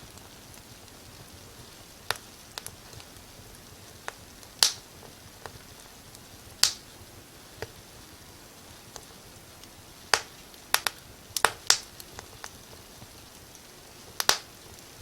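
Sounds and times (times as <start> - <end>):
soft steady hiss: 0.0 - 15.0
wood fire popping: 0.0 - 15.0.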